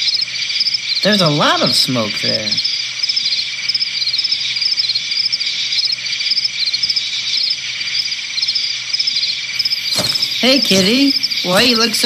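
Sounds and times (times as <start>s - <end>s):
crickets chirping: 0.0s - 12.0s
high insect drone: 0.0s - 12.0s.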